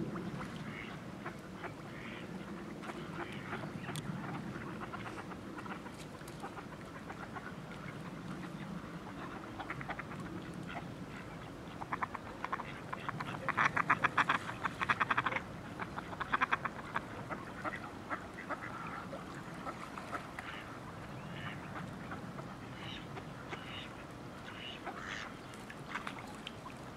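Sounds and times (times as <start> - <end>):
ducks quacking: 0.1 - 26.2.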